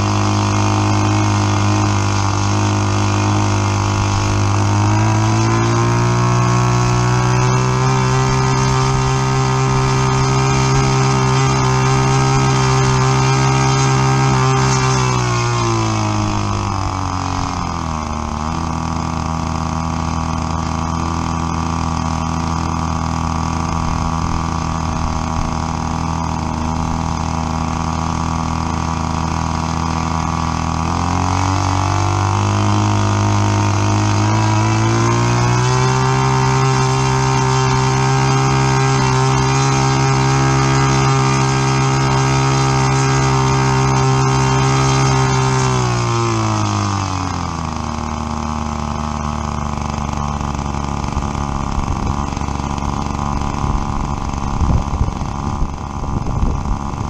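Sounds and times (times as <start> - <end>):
model airplane engine running: 0.0 - 57.0.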